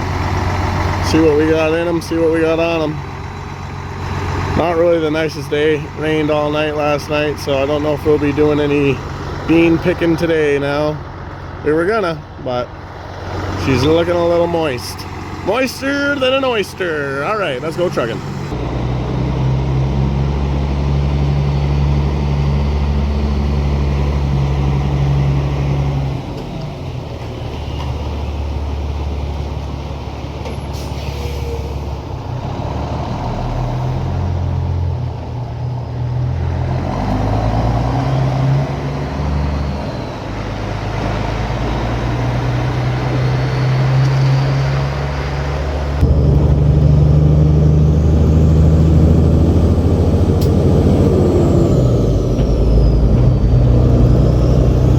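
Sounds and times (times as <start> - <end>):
truck diesel engine changing gears: 0.0 - 54.9.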